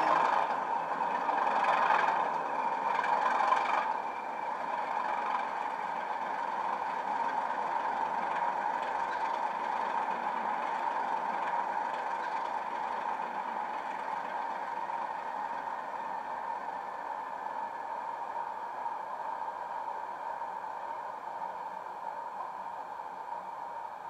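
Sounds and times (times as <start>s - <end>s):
diesel engine idling through speakers: 0.0s - 24.0s.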